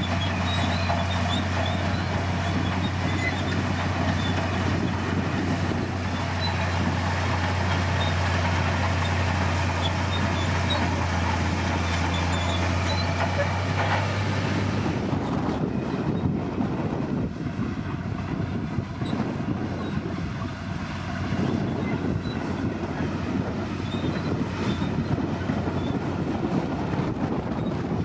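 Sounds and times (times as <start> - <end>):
bulldozer diesel engine rumbling: 0.0 - 28.0.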